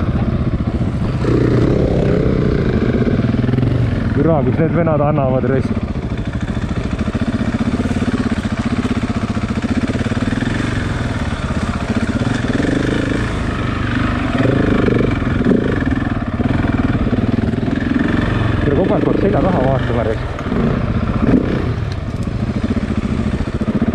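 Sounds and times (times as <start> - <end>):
motorcycle engine at low revs: 0.0 - 23.9.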